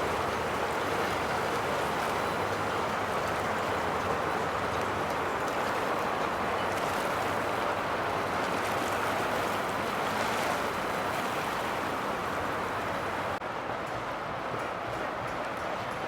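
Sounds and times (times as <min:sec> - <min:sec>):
boat motors and rushing water: 0:00.0 - 0:16.0.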